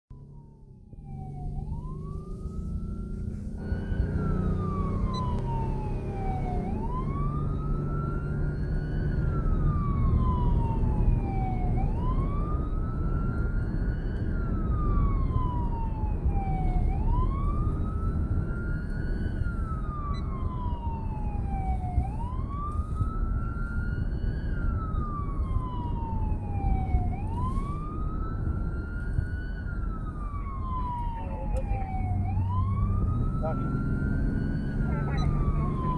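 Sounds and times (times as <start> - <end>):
ambulance siren wailing: 0.1 - 35.9
vehicle engine and road noise: 0.1 - 35.9.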